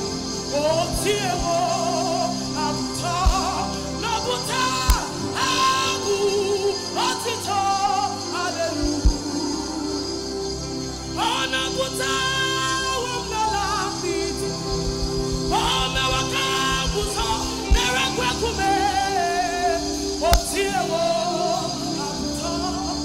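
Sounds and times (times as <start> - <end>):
keyboard chords and bass: 0.0 - 23.0.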